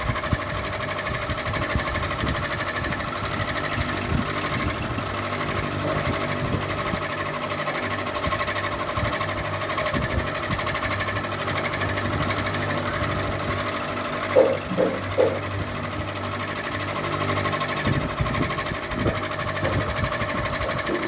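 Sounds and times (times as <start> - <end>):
ceiling fan rattling: 0.0 - 21.0.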